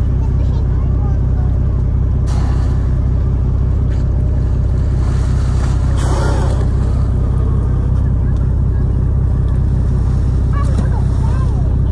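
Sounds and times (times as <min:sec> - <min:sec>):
boat engine idling: 0:00.0 - 0:11.9
tail splashing water: 0:02.2 - 0:11.9.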